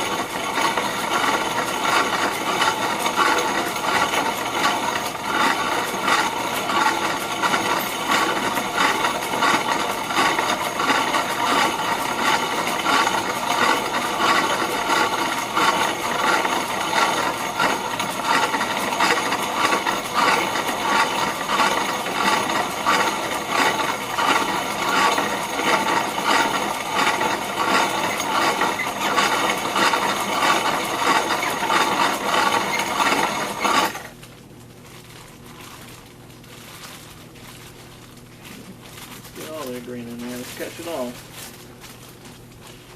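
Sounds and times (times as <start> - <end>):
grain mill grinding: 0.0 - 34.2, 36.6 - 42.9.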